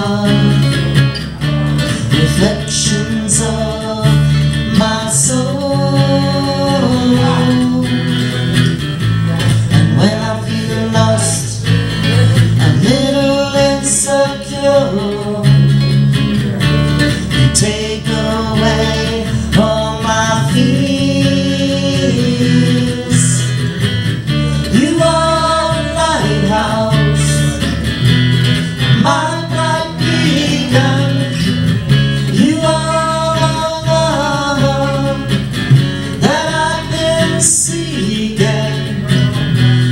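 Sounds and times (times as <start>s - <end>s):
acoustic guitar strumming: 0.0s - 39.9s
bass: 0.0s - 39.9s
person singing: 0.0s - 39.9s.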